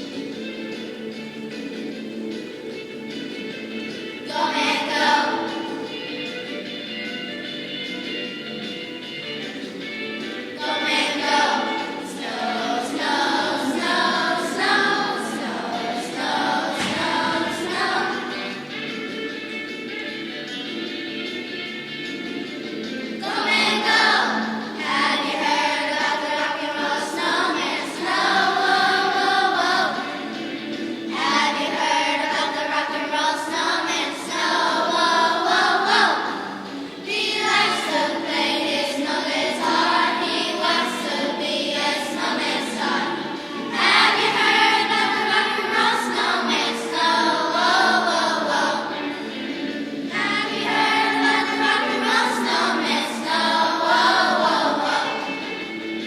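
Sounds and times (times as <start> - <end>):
children's choir singing: 0.0 - 56.0
musical accompaniment: 0.0 - 56.0.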